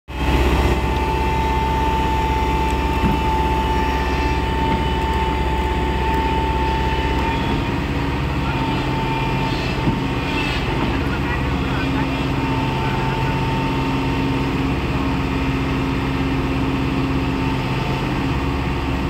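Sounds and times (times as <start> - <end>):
excavator diesel engine whining: 0.1 - 19.0.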